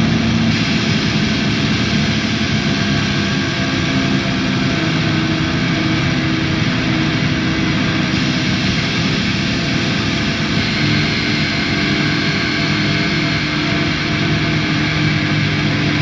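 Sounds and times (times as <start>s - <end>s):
drone noise music: 0.0s - 16.0s.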